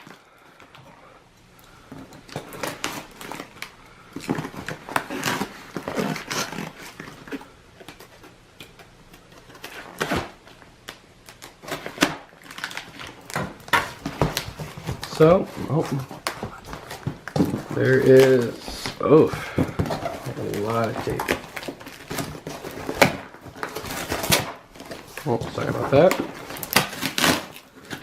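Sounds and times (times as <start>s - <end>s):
cardboard rustling: 1.7s - 28.0s
packing tape ripping: 2.2s - 28.0s.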